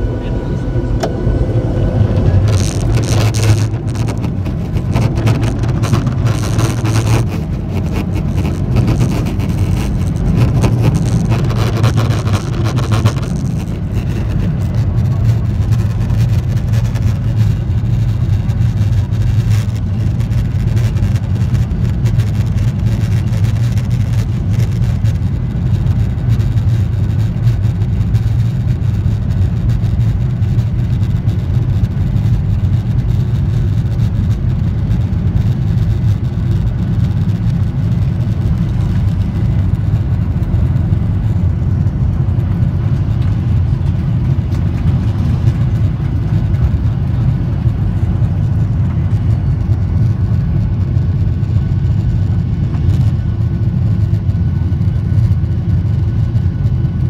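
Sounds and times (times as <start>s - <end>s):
airframe rolling rumble: 0.0s - 57.0s
jet engine low hum: 0.0s - 57.0s.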